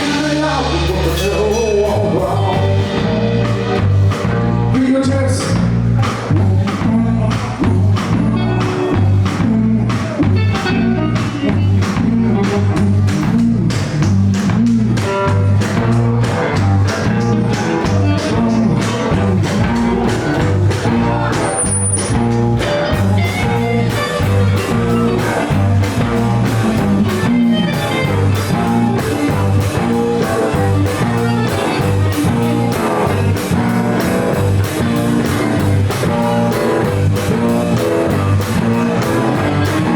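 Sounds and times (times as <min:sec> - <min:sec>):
bass line: 0:00.0 - 0:39.9
guitar: 0:00.0 - 0:39.9
live blues-rock band: 0:00.0 - 0:39.9
steady drum beat: 0:00.0 - 0:39.9.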